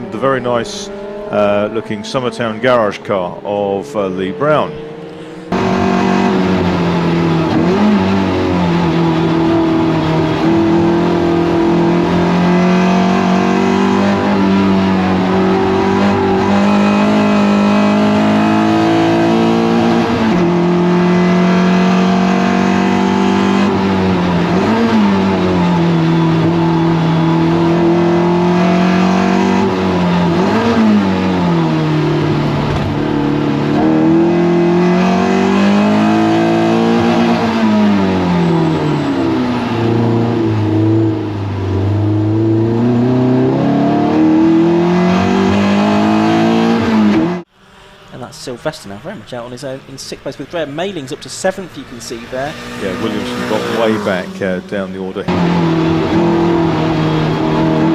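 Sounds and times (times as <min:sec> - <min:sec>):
race car engine running hard: 0:00.0 - 0:47.9, 0:51.2 - 0:57.9.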